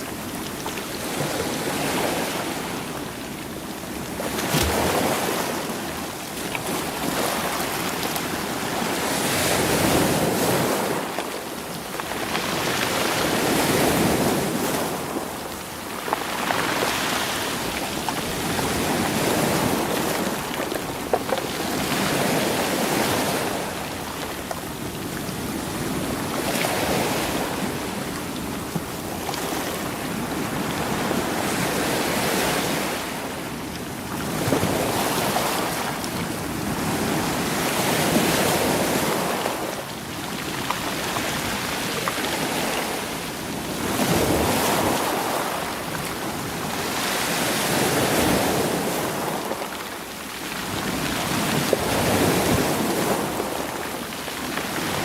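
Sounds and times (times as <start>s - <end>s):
sea waves breaking over rocks: 0.0s - 55.0s.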